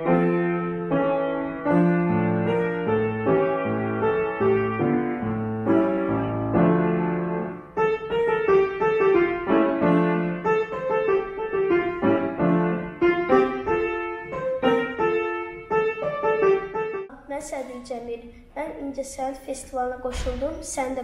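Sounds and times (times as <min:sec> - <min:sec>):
grand piano playing: 0:00.0 - 0:17.2.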